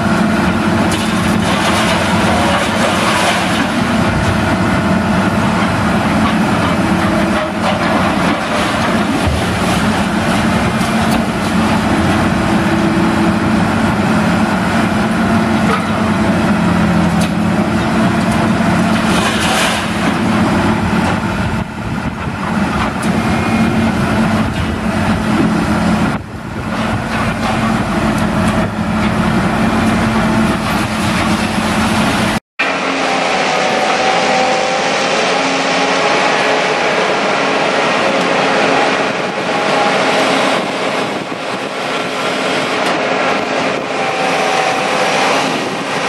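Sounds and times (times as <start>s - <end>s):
tractor engine drone: 0.0s - 46.0s.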